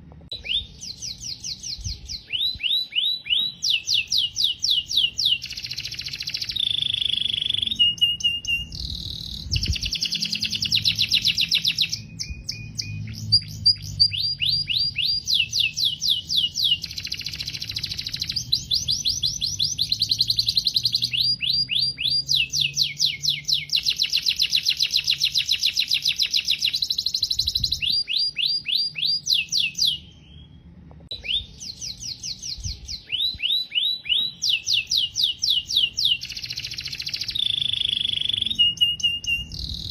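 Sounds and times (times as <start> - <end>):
canary singing trills: 0.3 - 39.9.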